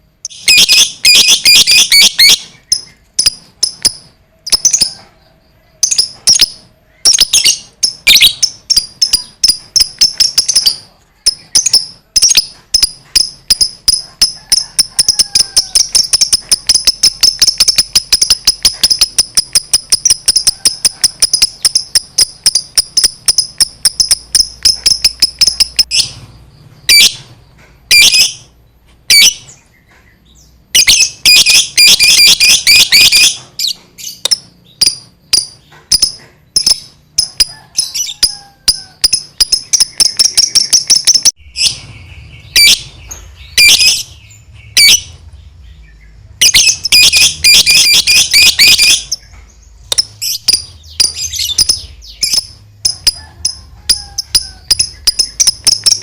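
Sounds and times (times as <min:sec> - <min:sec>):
bird chattering: 0:00.0 - 0:28.5, 0:29.1 - 0:56.0
bird chips: 0:05.8 - 0:28.5, 0:30.8 - 0:45.1, 0:46.4 - 0:56.0.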